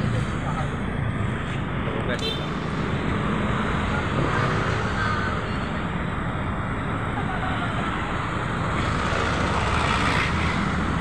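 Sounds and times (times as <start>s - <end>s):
cars passing on road: 0.0s - 11.0s.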